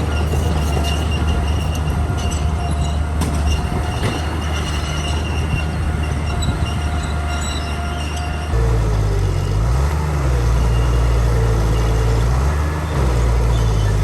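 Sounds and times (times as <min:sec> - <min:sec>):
diesel engine running: 0:00.0 - 0:14.0
steel tracks squealing and clanking: 0:00.0 - 0:14.0.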